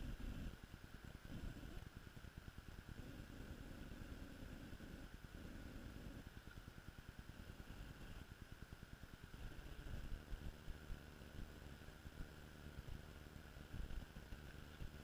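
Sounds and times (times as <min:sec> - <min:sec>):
steady faint hiss: 0:00.0 - 0:15.0.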